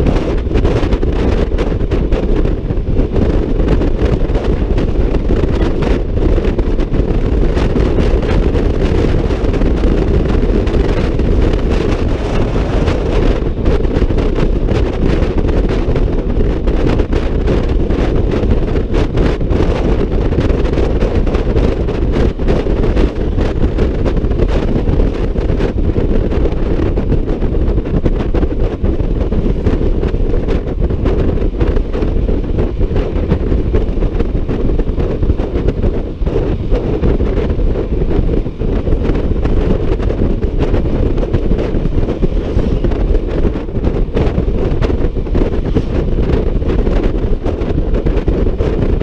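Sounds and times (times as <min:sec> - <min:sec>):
wind rush on microphone: 0:00.0 - 0:49.0.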